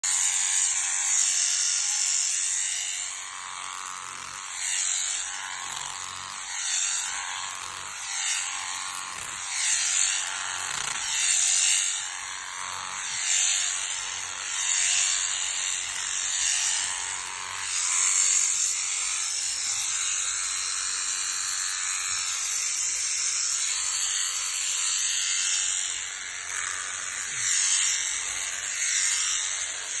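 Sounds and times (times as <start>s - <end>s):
electric sheep shears buzzing: 0.0s - 30.0s.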